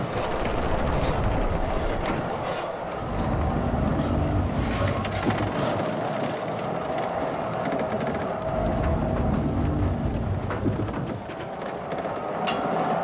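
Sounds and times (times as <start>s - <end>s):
drilling rig machinery rumbling: 0.0s - 13.0s.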